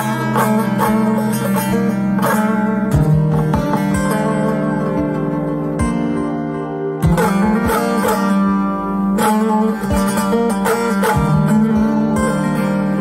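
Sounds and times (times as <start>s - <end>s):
plucked saz melody: 0.0s - 13.0s
saz strum: 0.0s - 13.0s.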